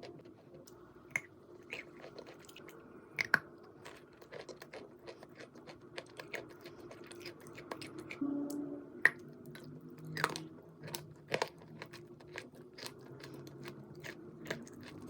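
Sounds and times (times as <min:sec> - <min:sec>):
chalk being bitten and chewed: 0:00.3 - 0:08.2, 0:09.1 - 0:15.0.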